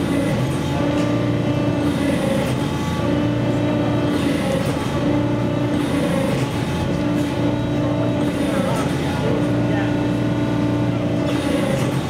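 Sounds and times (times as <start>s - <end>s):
machine mechanical hum: 0.0s - 12.0s.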